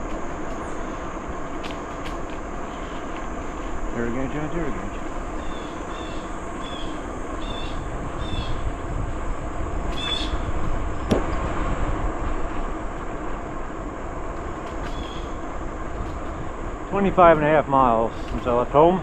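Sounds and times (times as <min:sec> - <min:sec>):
bicycle riding noise: 0:00.0 - 0:19.0
wind on microphone: 0:03.5 - 0:19.0.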